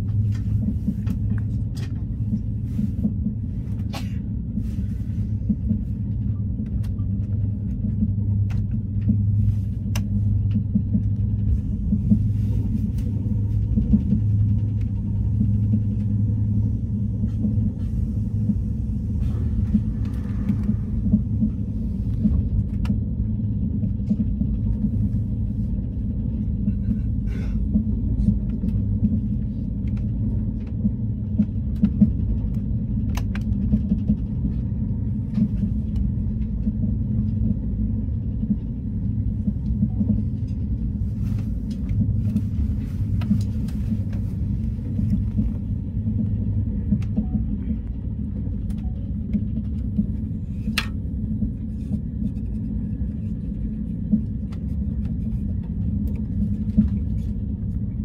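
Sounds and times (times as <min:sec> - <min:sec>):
train rumble from inside car: 0:00.0 - 0:58.0.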